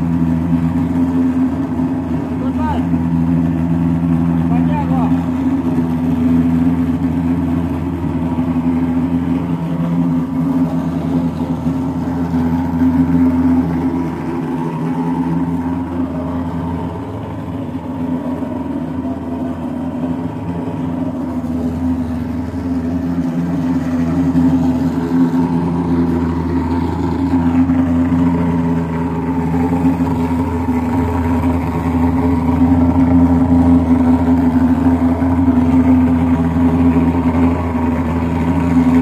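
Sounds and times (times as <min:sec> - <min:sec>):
fogging machine engine droning: 0:00.0 - 0:39.0.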